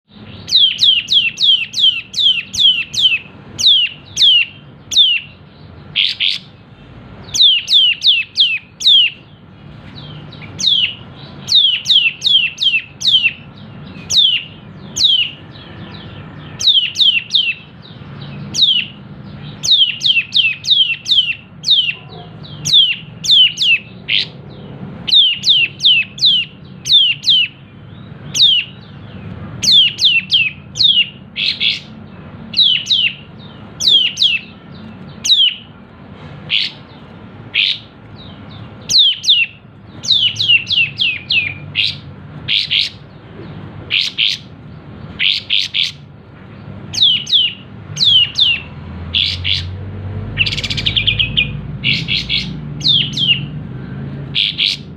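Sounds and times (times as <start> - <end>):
songbird calling sharp sliding notes: 0.1 - 27.6, 29.6 - 43.2, 43.9 - 46.2, 46.9 - 53.6, 54.2 - 54.9.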